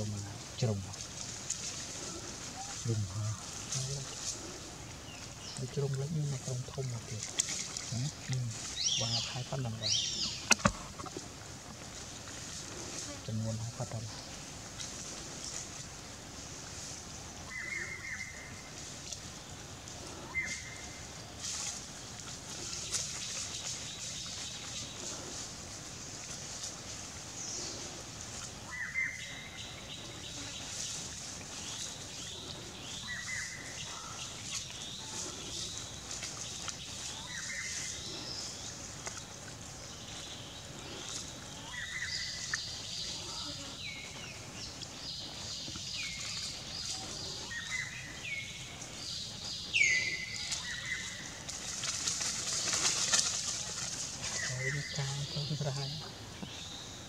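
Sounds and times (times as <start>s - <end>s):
steady high hiss: 0.0s - 57.0s.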